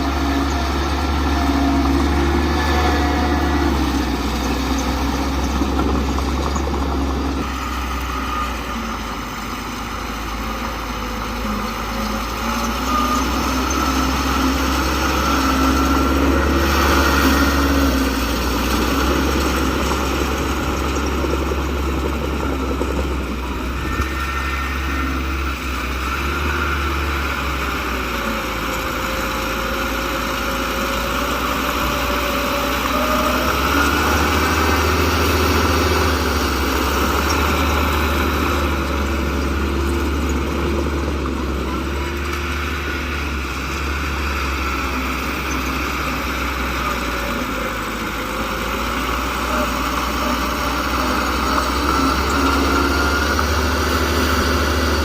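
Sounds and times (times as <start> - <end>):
heavy diesel engine humming: 0.0 - 55.0.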